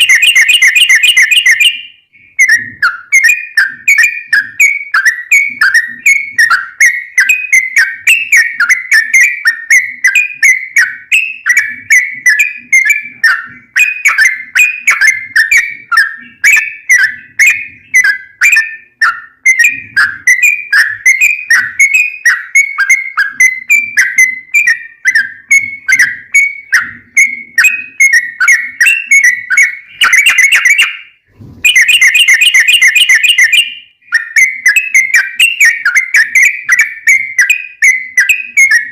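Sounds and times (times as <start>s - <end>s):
bulbul singing whistled notes: 0.0s - 38.9s.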